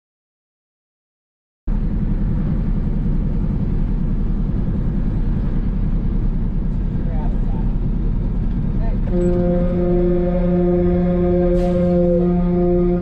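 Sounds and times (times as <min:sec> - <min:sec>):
vehicle engine and road rumble: 0:01.7 - 0:13.0.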